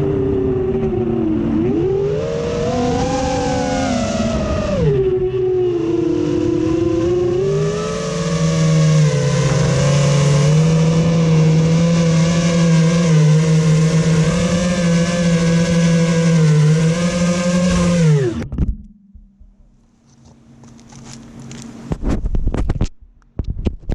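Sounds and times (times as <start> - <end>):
drone motors whining: 0.0 - 22.1.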